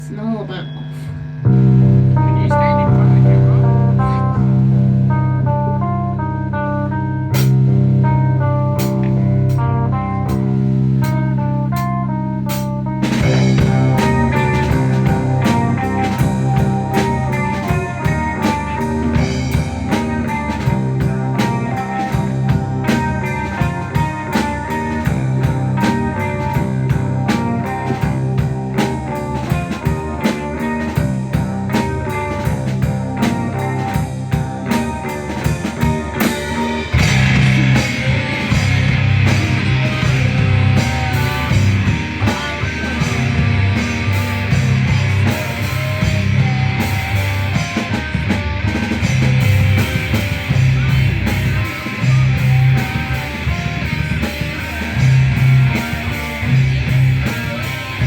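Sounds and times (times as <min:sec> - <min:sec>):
rock band playing instrumental: 0:00.0 - 0:58.0.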